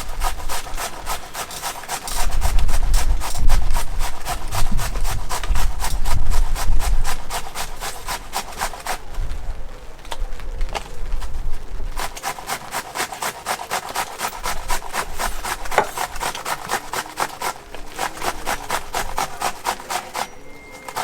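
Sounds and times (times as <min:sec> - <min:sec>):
cucumber grated on metal grater: 0:00.0 - 0:09.0, 0:12.0 - 0:21.0.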